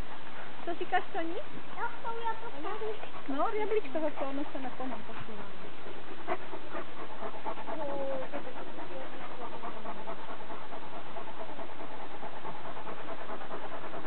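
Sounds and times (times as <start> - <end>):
dogs panting: 0.0 - 14.0.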